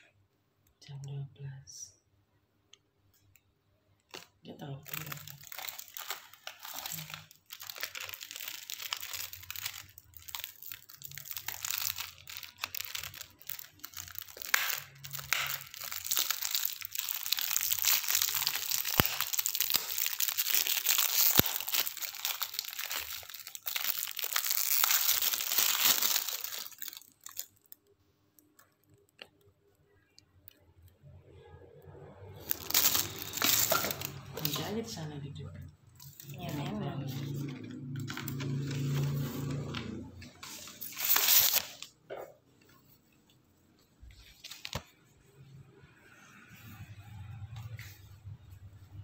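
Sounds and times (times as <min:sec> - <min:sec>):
wrapping crinkling: 0:04.0 - 0:29.8, 0:32.4 - 0:35.1, 0:35.9 - 0:45.4, 0:46.0 - 0:48.5.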